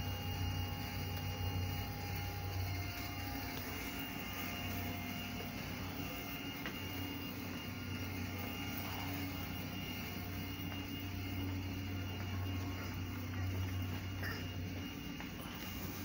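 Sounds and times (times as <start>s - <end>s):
electric train low drone: 0.0s - 16.0s
faint high whine: 0.0s - 16.0s.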